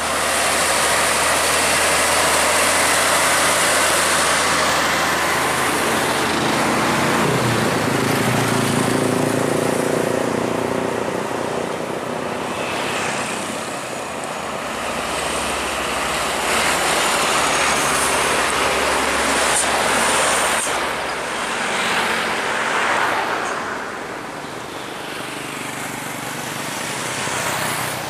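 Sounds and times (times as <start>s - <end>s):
diesel trucks passing: 0.0s - 28.0s.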